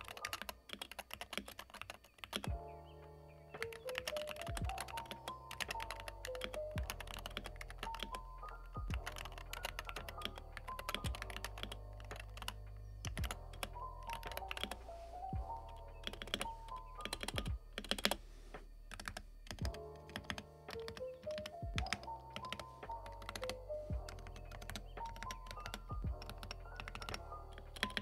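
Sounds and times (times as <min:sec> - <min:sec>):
fast keyboard typing: 0:00.0 - 0:02.6, 0:03.6 - 0:14.8, 0:15.6 - 0:18.2, 0:18.9 - 0:28.0.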